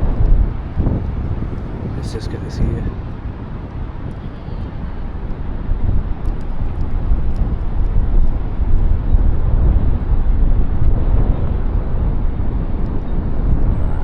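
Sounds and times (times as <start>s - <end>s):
wind blowing on microphone: 0.0s - 14.0s.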